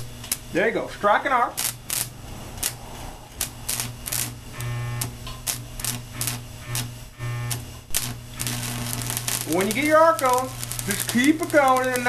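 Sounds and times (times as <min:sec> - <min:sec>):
arc welder buzzing: 0:00.0 - 0:12.0
arc welder crackling and popping: 0:00.0 - 0:12.0
steady low hum: 0:00.0 - 0:12.0.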